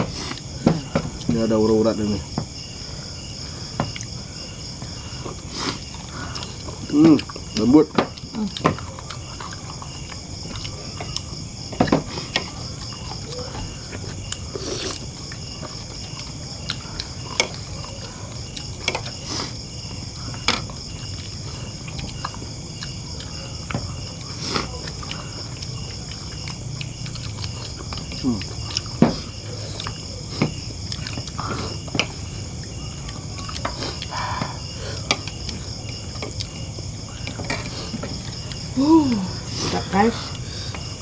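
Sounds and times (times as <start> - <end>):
night insects chirring: 0.0 - 41.0
clicks and taps of eating: 3.8 - 4.2, 4.8 - 14.4, 15.0 - 19.3, 19.9 - 38.7.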